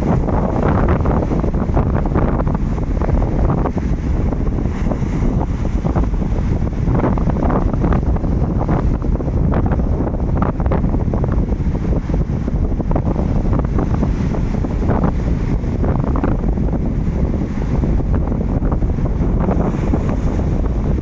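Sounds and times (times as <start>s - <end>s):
sea waves washing and splashing: 0.0s - 21.0s
wind buffeting microphone: 0.0s - 21.0s.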